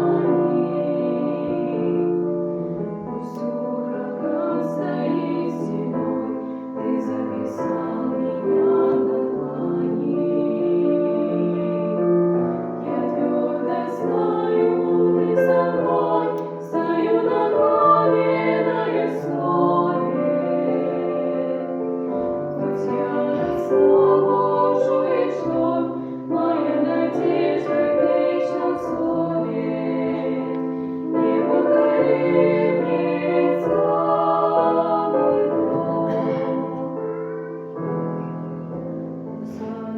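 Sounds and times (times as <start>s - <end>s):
voices singing: 0.0s - 38.0s
piano accompaniment: 0.0s - 39.9s.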